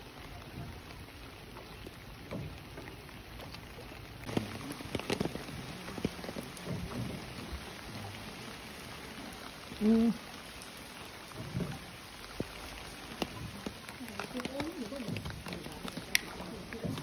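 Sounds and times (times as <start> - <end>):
rain falling on river water: 0.0 - 17.0.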